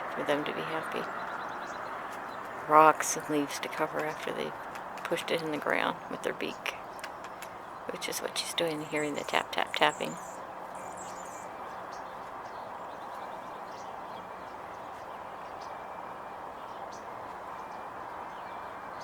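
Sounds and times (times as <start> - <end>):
outdoor background hum: 0.0 - 19.0.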